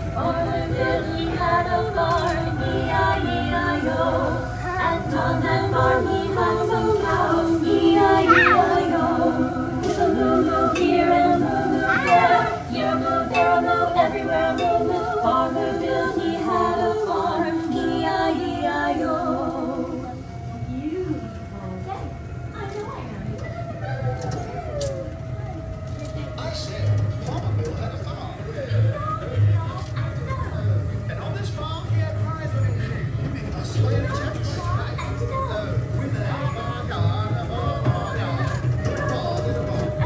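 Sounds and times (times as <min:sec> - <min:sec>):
group singing over loudspeakers: 0:00.0 - 0:20.7, 0:25.7 - 0:40.0.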